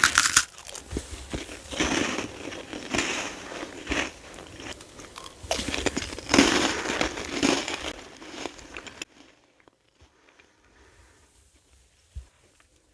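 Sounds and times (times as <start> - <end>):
crunching and chewing candy: 0.0 - 10.7.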